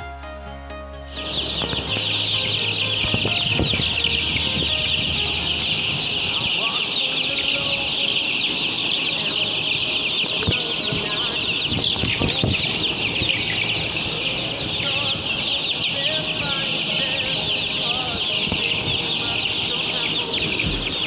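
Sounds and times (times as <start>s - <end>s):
chicks peeping: 1.1s - 21.0s.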